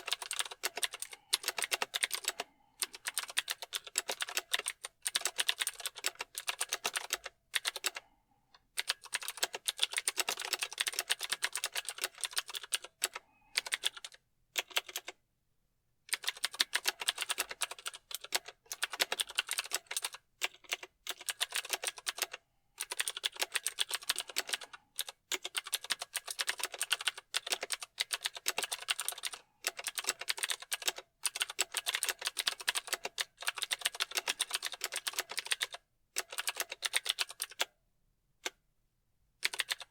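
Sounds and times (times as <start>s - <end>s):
mechanical keyboard typing: 0.0s - 8.0s, 8.8s - 15.2s, 16.1s - 37.7s, 39.4s - 39.9s.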